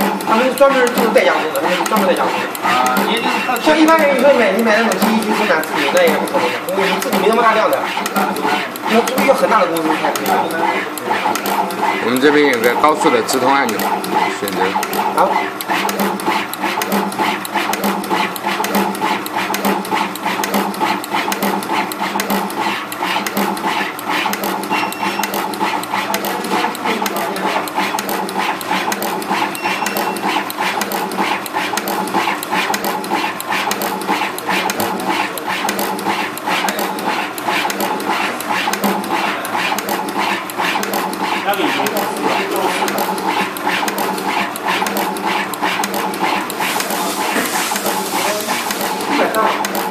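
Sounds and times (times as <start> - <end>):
motor running: 0.0 - 49.9
rapid mechanical clicking: 0.0 - 49.9.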